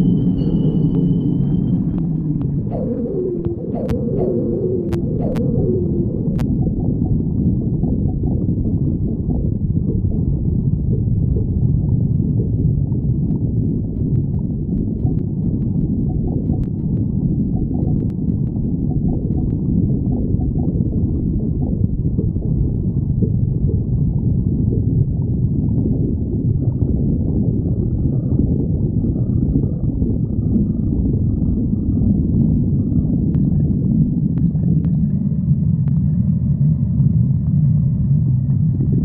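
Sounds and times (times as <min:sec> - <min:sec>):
stomach growling: 0:00.4 - 0:39.0.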